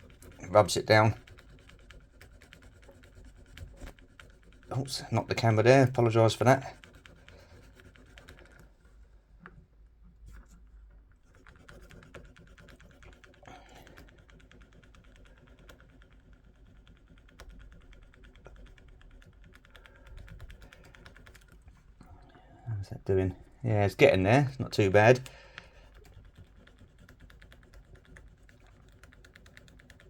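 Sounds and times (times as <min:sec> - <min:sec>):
file scratching on plastic: 0:00.0 - 0:09.0, 0:10.3 - 0:22.0, 0:23.0 - 0:30.0.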